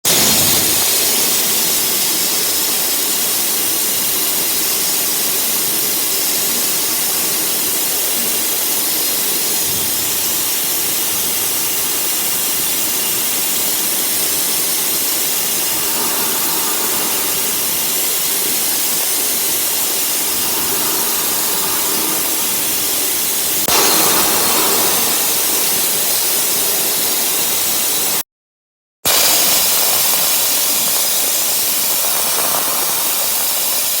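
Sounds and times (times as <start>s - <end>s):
cutting machine hissing: 0.0s - 28.2s, 29.1s - 34.0s.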